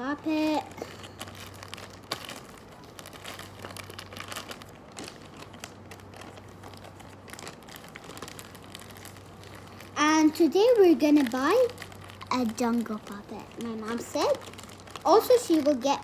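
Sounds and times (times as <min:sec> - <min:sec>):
plastic crinkling and rustling: 0:00.0 - 0:16.0.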